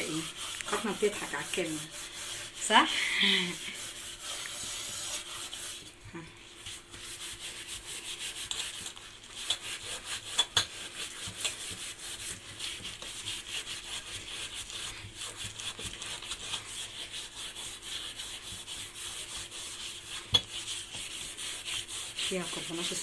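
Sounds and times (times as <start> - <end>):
steel wool scrubbing metal pot: 0.0 - 23.0.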